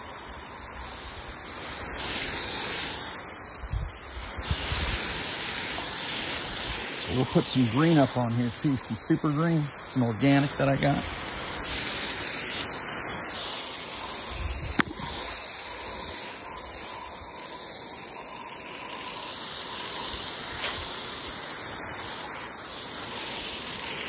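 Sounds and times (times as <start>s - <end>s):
hose sprayer hissing: 0.0s - 24.0s.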